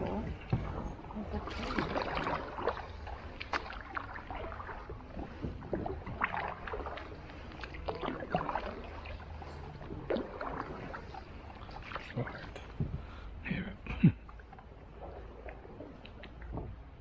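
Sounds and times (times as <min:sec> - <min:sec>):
paddle strokes and splashes: 0:00.0 - 0:13.4, 0:14.2 - 0:17.0.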